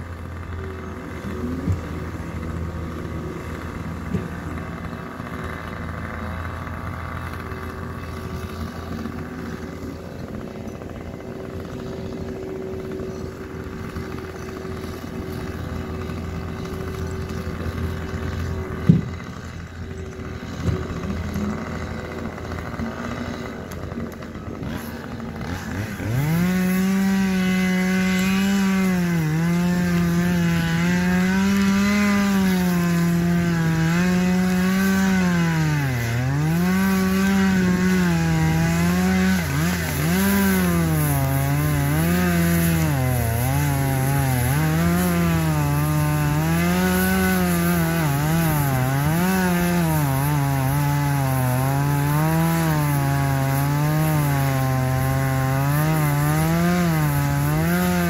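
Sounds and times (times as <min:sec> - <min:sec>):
chainsaw revving in cut: 0:00.0 - 0:58.0.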